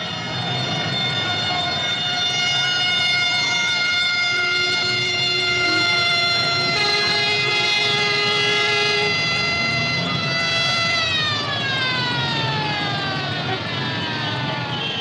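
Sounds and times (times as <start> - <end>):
mechanical siren wailing: 0.0 - 15.0.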